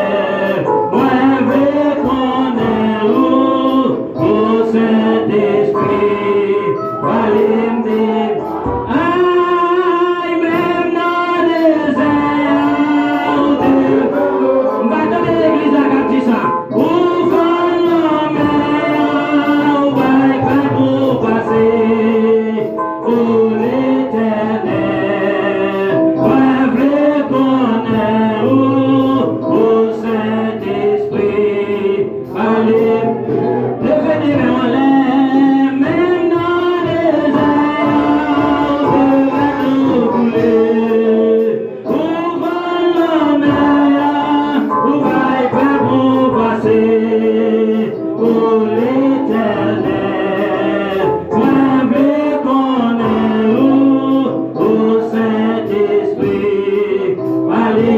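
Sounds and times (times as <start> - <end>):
gospel song with mixed voices: 0.0 - 57.9.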